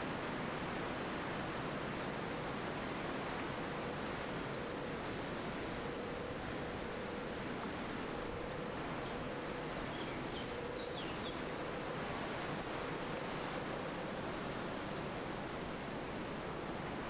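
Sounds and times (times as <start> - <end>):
wind through trees: 0.0 - 17.0.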